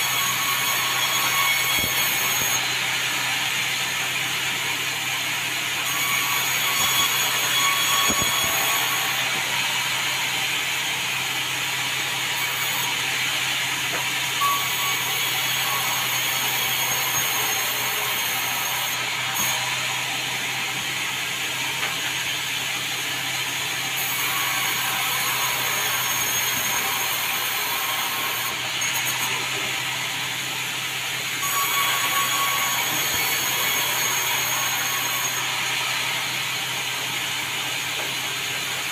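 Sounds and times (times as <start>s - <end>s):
bandsaw sawing timber: 0.0s - 38.9s.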